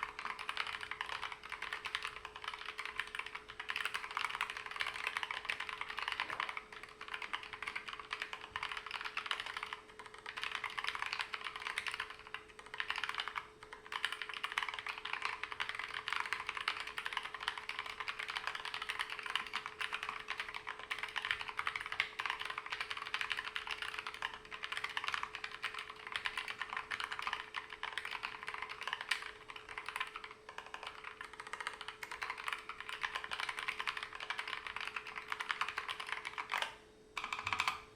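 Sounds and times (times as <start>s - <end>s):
fast typing on keyboard: 0.0s - 37.8s
faint hum: 0.0s - 37.9s.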